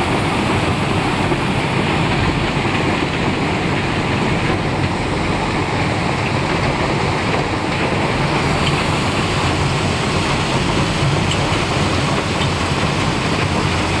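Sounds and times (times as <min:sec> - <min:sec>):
crusher rumbling roar: 0:00.0 - 0:14.0.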